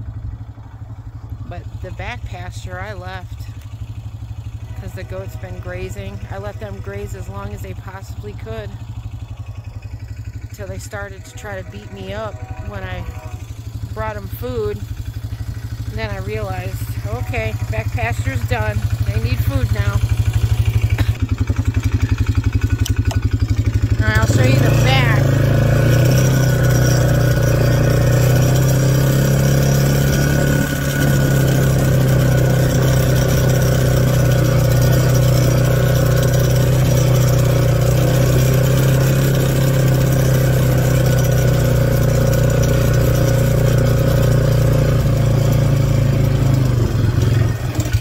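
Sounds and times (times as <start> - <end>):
small vehicle engine running: 0.0 - 48.0.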